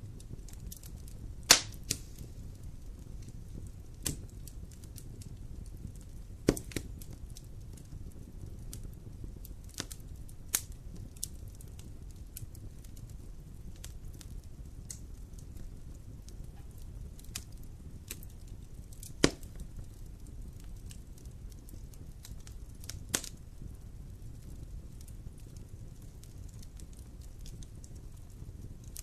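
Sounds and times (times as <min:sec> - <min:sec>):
campfire crackling: 0:00.0 - 0:29.0
fire popping: 0:00.0 - 0:29.0.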